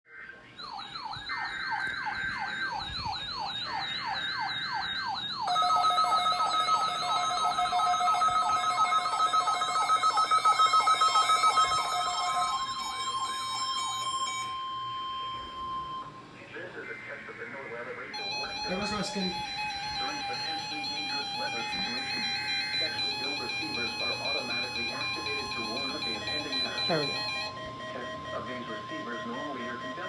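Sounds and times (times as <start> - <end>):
electronic alarm sirens: 0.1 - 16.4, 18.2 - 30.0
steady alarm tones: 0.1 - 16.4, 18.2 - 30.0.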